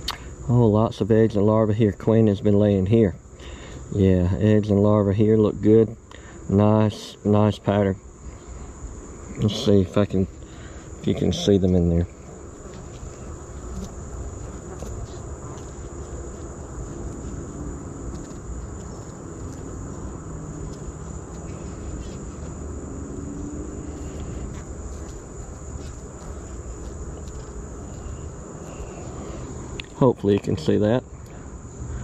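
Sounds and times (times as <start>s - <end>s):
high-pitched insect trill: 0.0s - 32.0s
bees buzzing: 5.2s - 32.0s.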